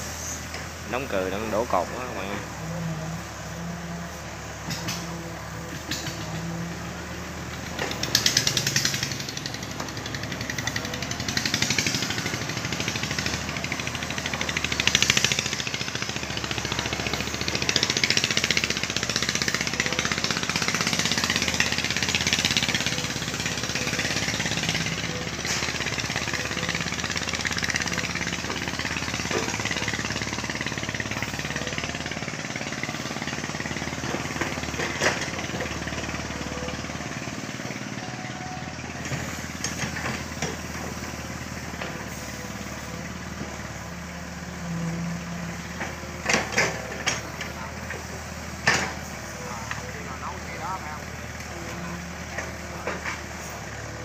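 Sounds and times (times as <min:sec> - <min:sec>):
excavator diesel engine rattling: 0:00.0 - 0:54.0.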